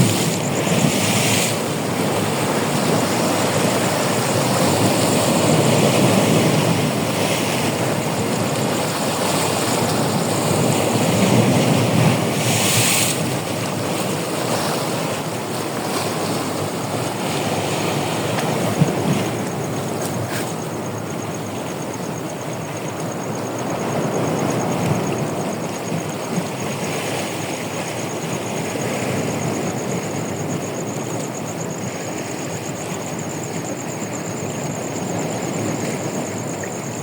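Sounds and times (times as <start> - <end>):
sea waves breaking on shore: 0.0 - 37.0.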